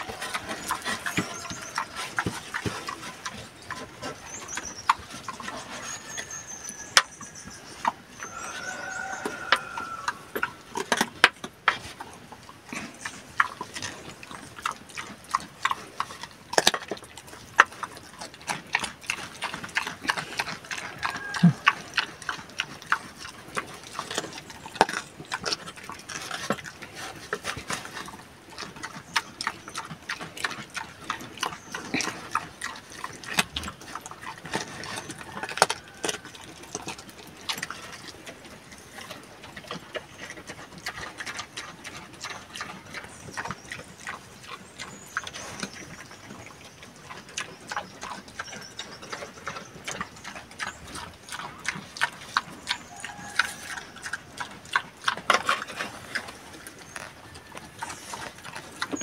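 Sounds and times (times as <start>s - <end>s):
pig chomping food from metal bucket: 0.0s - 7.1s, 7.8s - 59.0s.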